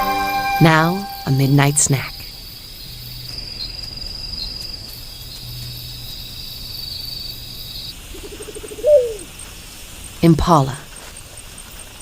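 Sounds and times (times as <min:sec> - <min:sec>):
crickets trilling: 0:00.6 - 0:12.0.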